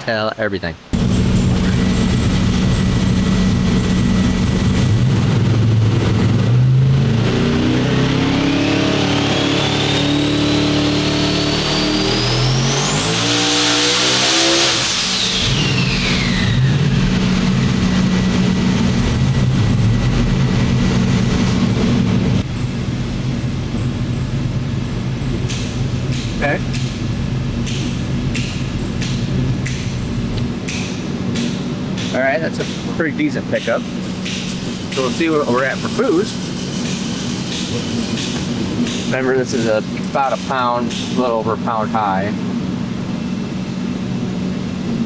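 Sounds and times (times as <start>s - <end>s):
engine revving and idling: 0.9s - 45.0s.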